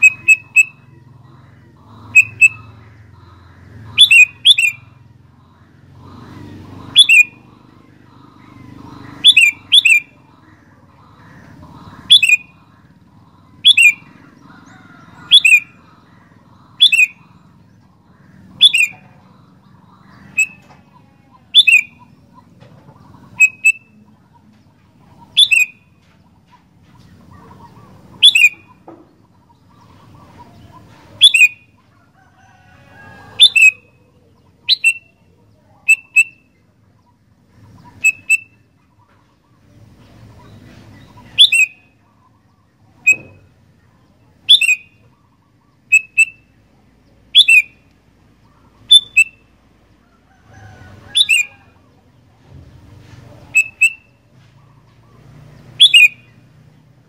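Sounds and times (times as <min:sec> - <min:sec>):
bulbul calling: 0:00.0 - 0:57.0.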